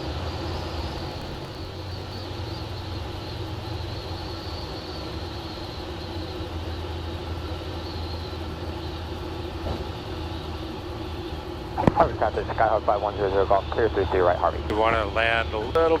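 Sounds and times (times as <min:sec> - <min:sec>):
light aircraft engine and propeller: 0:00.0 - 0:16.0.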